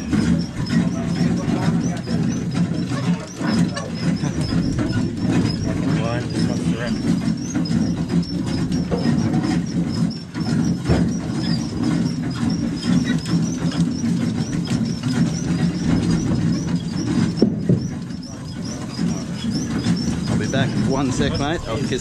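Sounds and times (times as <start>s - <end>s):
diesel engine drone: 0.0s - 22.0s.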